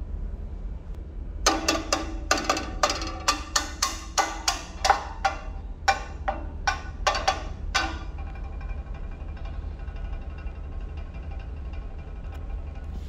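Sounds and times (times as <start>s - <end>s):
steady low hum: 0.0s - 13.0s
sharp ringing knocks: 1.5s - 13.0s.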